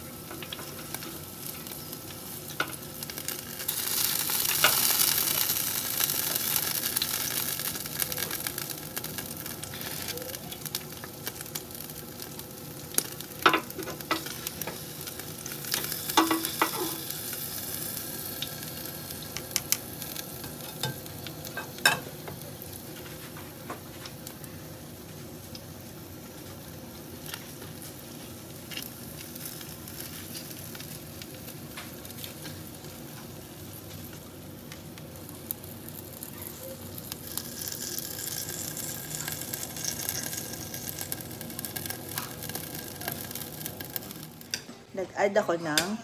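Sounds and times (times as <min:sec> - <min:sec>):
chicken sizzling on a rack: 0:00.0 - 0:45.9
fat crackling and popping: 0:00.0 - 0:46.0.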